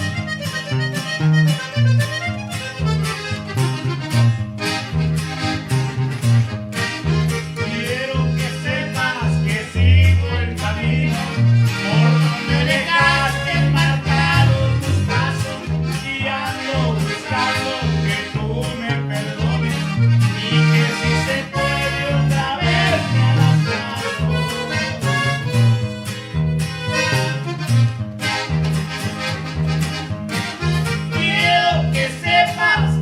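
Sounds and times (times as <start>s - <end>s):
accordion melody: 0.0s - 33.0s
bass line: 0.0s - 33.0s.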